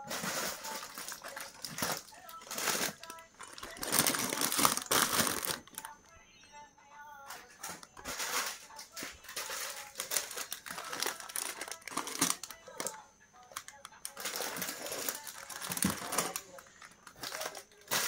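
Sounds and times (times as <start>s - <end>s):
packaging crinkling: 0.0s - 6.0s, 7.6s - 18.0s.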